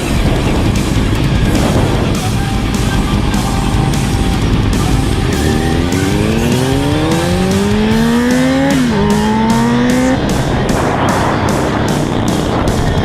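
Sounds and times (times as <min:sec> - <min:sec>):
motorcycle engine accelerating: 0:00.0 - 0:13.0
rock music: 0:00.0 - 0:13.0.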